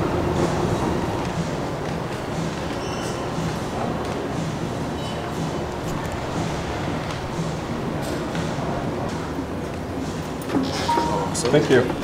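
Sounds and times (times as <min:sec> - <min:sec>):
low hum of station hall: 0:00.0 - 0:12.0.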